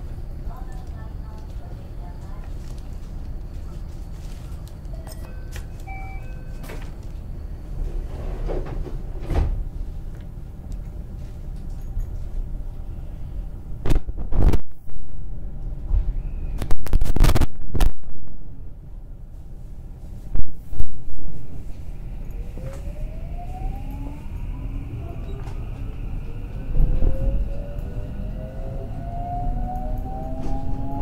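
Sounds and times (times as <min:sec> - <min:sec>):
train running gear rumble: 0:00.0 - 0:17.1, 0:18.5 - 0:31.0.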